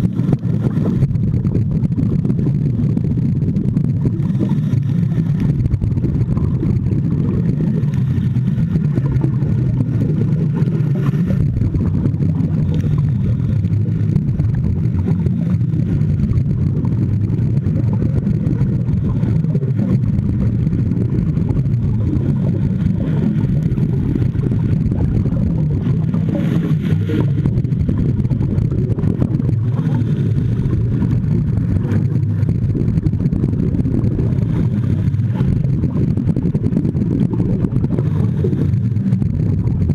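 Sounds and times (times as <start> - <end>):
divers exhaling bubbles: 0.0 - 39.9
low underwater rumble: 0.0 - 39.9.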